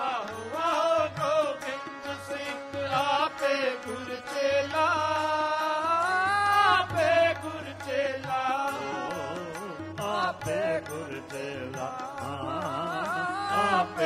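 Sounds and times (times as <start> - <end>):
harmonium: 0.0 - 14.0
man singing: 0.0 - 14.0.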